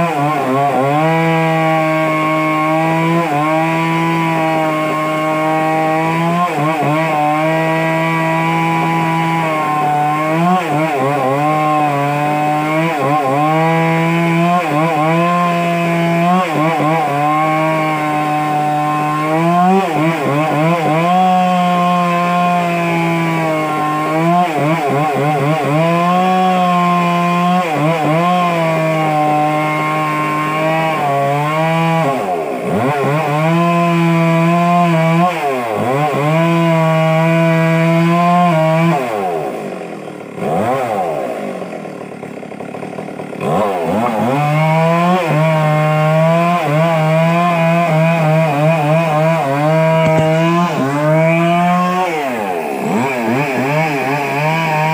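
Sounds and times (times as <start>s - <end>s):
chainsaw cutting into log: 0.0s - 54.9s.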